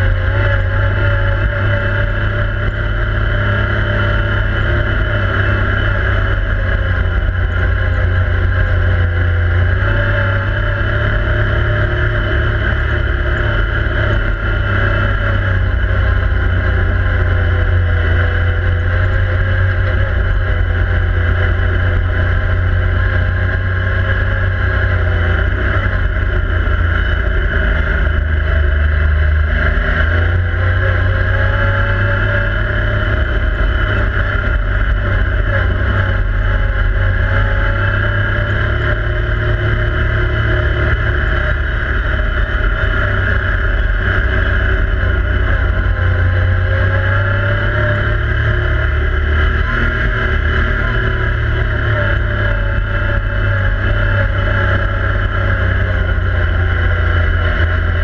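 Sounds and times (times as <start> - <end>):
engine running heard from cab: 0.0 - 58.0.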